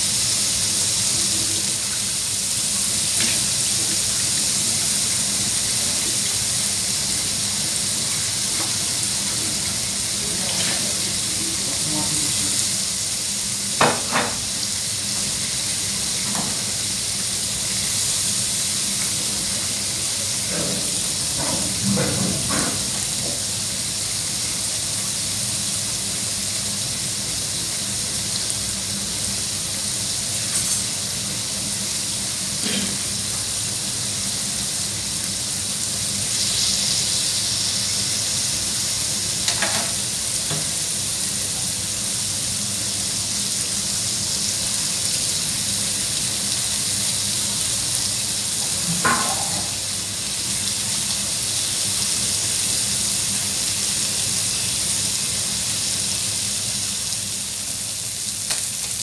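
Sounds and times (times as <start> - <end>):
fish sizzling on a grill pan: 0.0 - 59.0.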